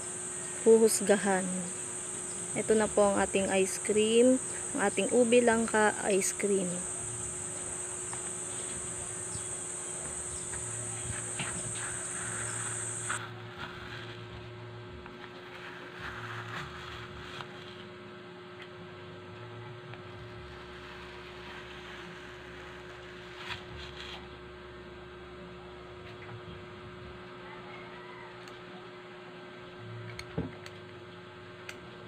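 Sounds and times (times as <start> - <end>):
steady hum: 0.0 - 27.2.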